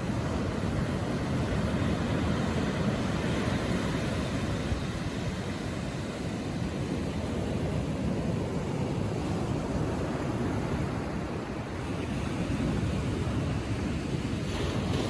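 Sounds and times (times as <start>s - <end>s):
ocean waves washing up beach: 0.0s - 15.0s.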